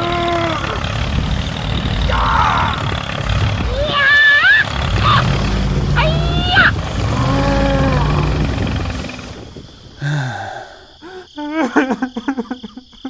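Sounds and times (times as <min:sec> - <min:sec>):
low engine rumble: 0:00.0 - 0:10.5.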